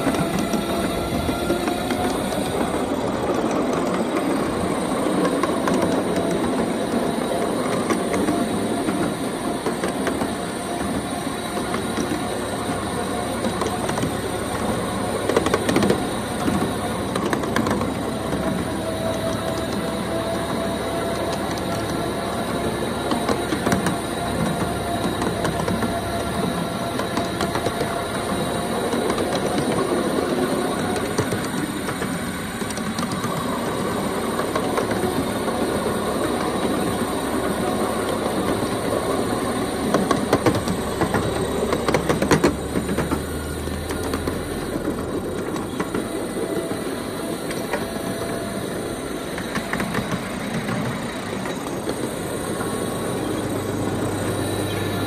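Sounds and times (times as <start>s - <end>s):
miniature train wheels clicking: 0.0s - 55.0s.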